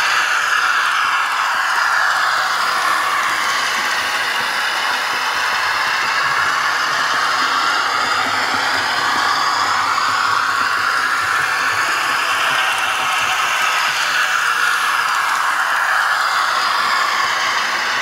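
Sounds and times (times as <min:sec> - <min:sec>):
faint motor whine: 0:00.0 - 0:18.0
model trains whirring on track: 0:00.0 - 0:18.0.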